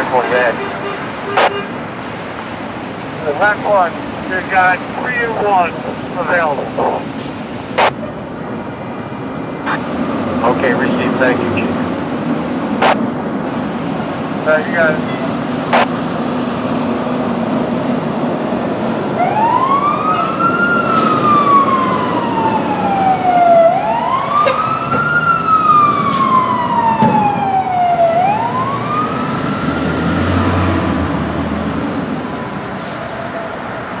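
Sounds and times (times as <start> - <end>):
fire truck siren wailing: 0.0 - 34.0.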